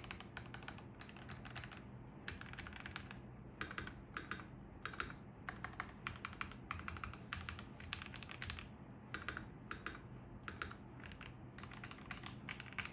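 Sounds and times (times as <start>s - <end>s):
mechanical keyboard keys clacking: 0.0s - 12.9s.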